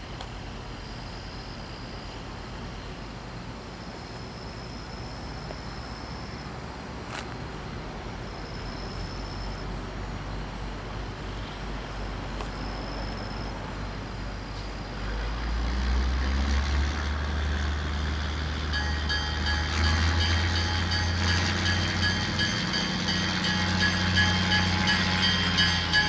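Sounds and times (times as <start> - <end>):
distant diesel locomotive rumble: 0.0 - 26.0.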